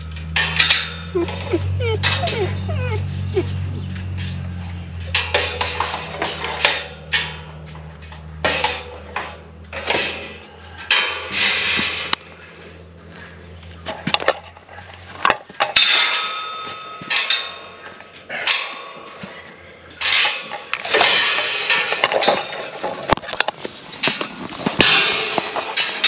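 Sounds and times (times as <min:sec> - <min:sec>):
metal gate clanking and rattling: 0:00.0 - 0:12.3, 0:13.8 - 0:26.0.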